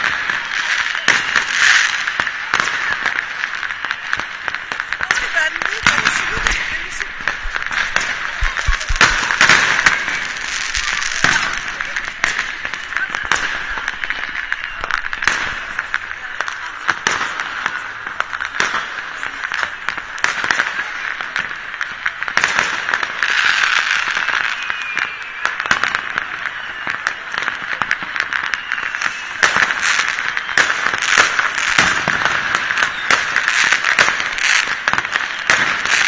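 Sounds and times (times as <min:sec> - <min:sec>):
fireworks bangs and cracks: 0:00.0 - 0:36.0.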